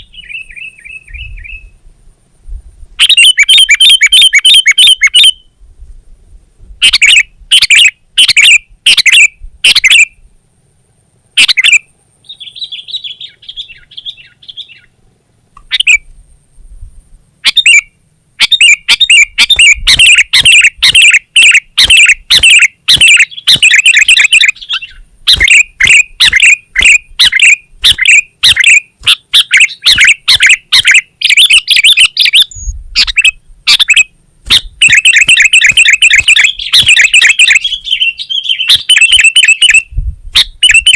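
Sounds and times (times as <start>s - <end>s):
bird singing sharp repeated notes: 0.0s - 1.8s, 3.0s - 5.6s, 6.8s - 10.2s, 11.4s - 15.0s, 15.6s - 16.1s, 17.4s - 40.9s
faint bird trill: 0.0s - 1.8s, 3.0s - 5.6s, 6.8s - 10.3s, 11.4s - 15.0s, 15.6s - 16.1s, 17.4s - 40.9s.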